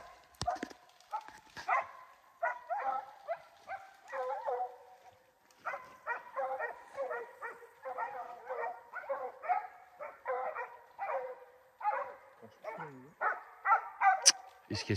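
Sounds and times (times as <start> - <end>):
hound barking: 0.0 - 14.6.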